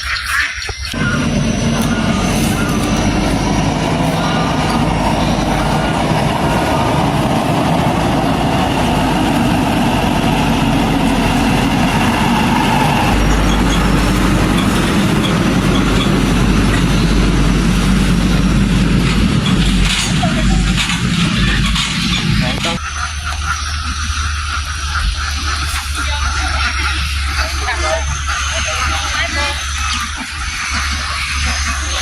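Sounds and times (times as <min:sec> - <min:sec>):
vehicle engine running: 0:00.9 - 0:32.0.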